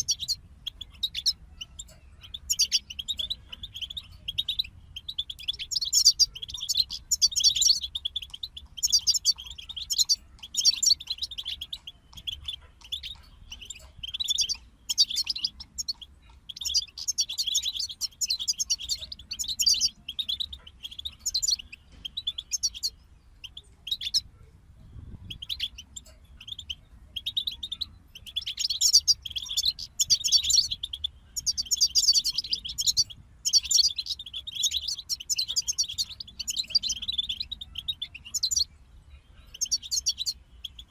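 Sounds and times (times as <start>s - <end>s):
finches twittering song: 0.0s - 40.9s.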